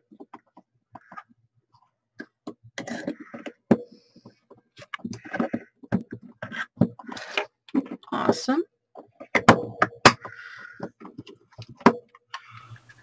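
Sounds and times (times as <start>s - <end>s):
doll parts clicking and knocking: 0.0s - 13.0s.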